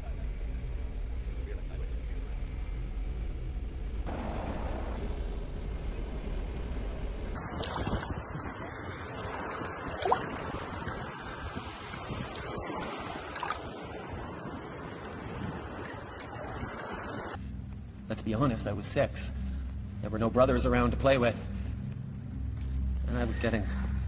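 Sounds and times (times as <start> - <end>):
aircraft engines droning: 0.0 - 24.0
steady rushing noise: 0.0 - 24.0.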